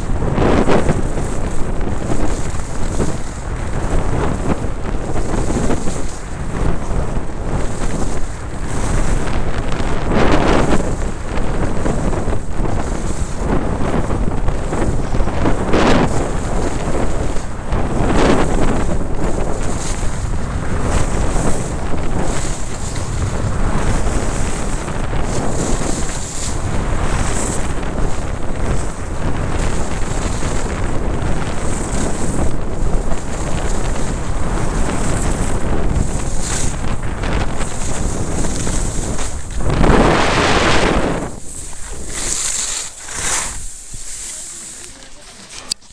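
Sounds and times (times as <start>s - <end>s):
skis scraping over snow: 0.0s - 45.9s
wind buffeting microphone: 0.0s - 45.9s.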